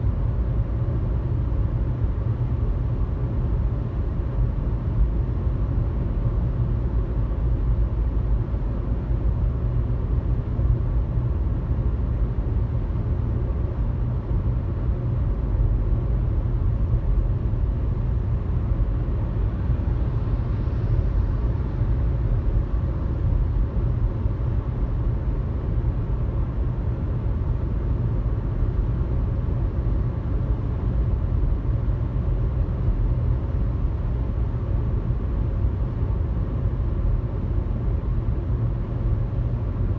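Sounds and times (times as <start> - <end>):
car cabin road and engine noise: 0.2 - 39.9.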